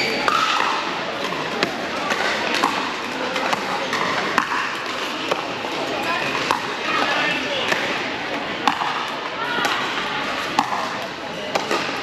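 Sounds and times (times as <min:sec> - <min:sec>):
indistinct voices in a hall: 0:00.0 - 0:12.0.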